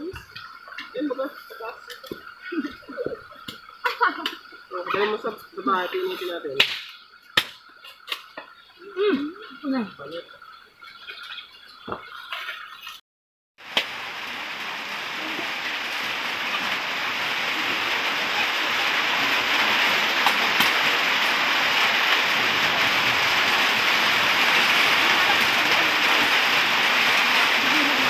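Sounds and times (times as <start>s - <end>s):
running water hiss: 0.0s - 13.0s, 13.6s - 28.0s.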